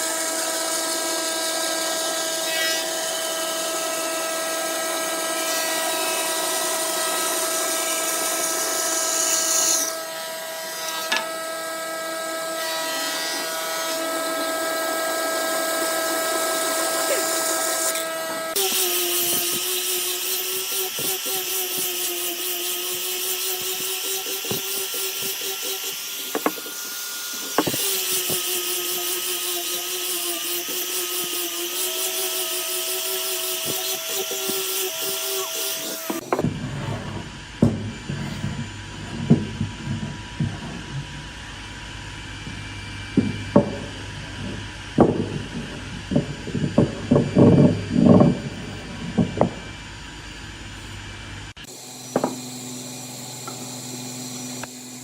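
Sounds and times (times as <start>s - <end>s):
tool cutting spinning wood: 0.0s - 55.0s
wood lathe motor whine: 0.0s - 55.0s.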